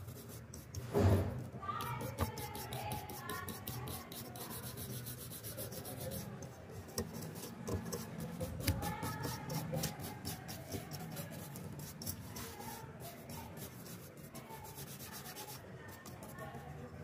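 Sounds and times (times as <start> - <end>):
toothbrush scrubbing fan: 0.0 - 0.8, 1.6 - 16.9.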